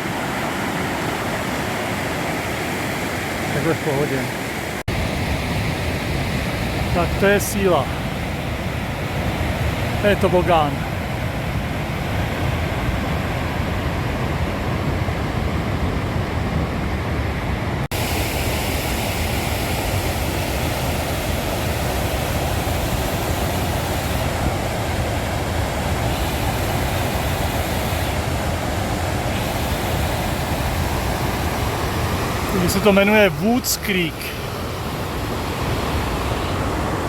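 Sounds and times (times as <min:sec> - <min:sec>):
creek rushing over rapids: 0:00.0 - 0:12.6, 0:17.9 - 0:37.0.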